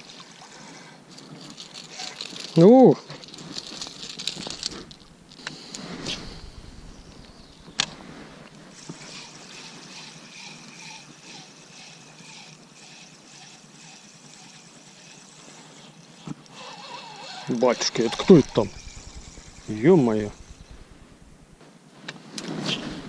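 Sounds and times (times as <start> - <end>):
fishing reel whirring: 1.3 - 8.0, 8.7 - 21.6.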